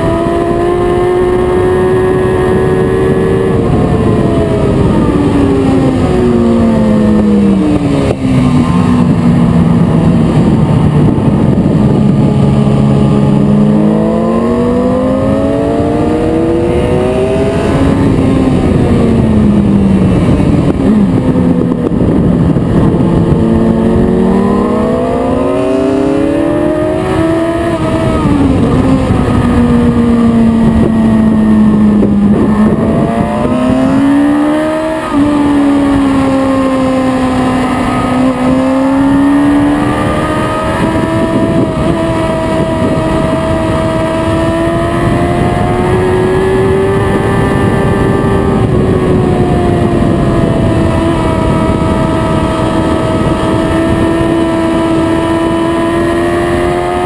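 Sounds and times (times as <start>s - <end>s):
motorcycle engine accelerating: 0.0s - 57.0s
wind rushing over microphone: 0.0s - 57.0s.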